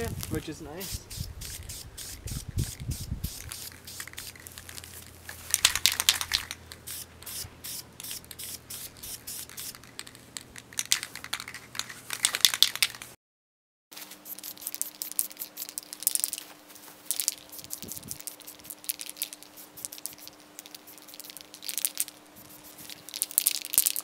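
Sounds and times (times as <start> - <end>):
spray paint can hissing: 0.0 - 13.1, 14.0 - 16.4, 17.0 - 24.0.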